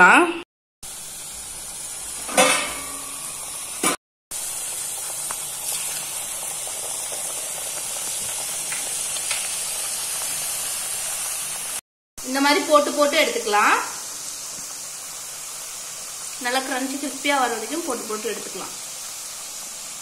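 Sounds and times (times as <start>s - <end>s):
dough deep-frying in hot oil: 0.8s - 20.0s.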